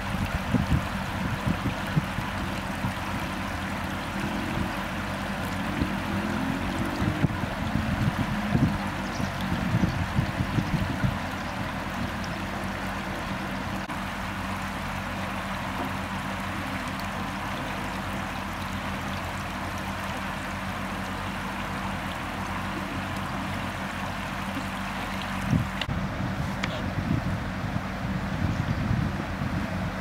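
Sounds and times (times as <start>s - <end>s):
floodwater flowing: 0.0s - 30.0s.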